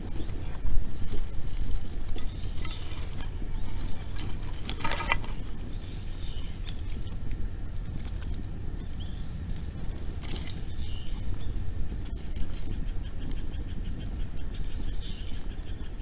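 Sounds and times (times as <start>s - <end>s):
campfire crackling and popping: 0.0s - 14.2s
wind rumbling on microphone: 0.0s - 16.0s.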